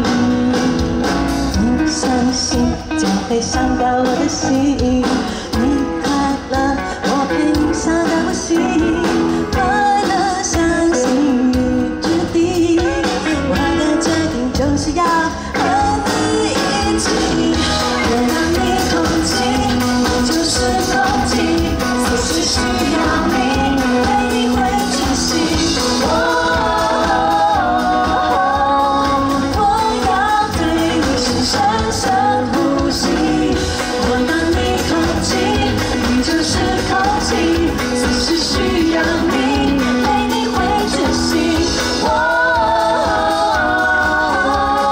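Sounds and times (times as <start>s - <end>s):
live pop-rock band: 0.0s - 44.9s
person singing: 0.0s - 44.9s.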